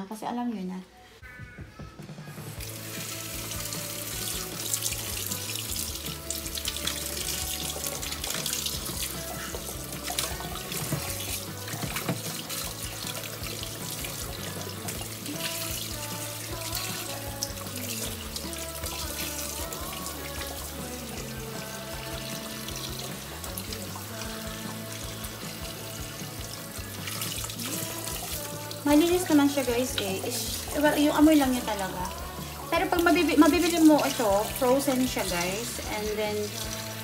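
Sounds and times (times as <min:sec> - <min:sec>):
background music with low notes: 0:00.0 - 0:37.0
tap water running into sink: 0:02.4 - 0:37.0
water splashing: 0:02.6 - 0:37.0.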